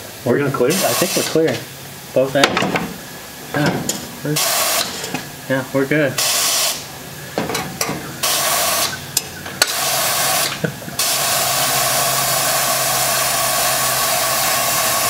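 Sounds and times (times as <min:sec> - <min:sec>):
hydraulic valve hissing: 0:00.0 - 0:15.0.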